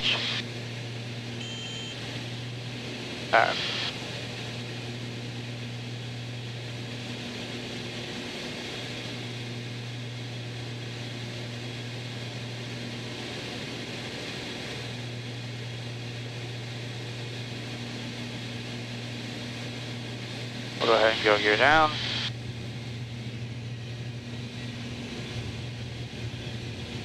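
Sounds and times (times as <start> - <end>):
aircraft engines droning in cabin: 0.0 - 27.0.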